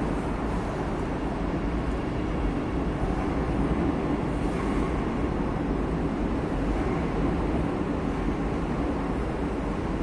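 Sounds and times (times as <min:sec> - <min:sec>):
low rumbling station noise: 0:00.0 - 0:10.0.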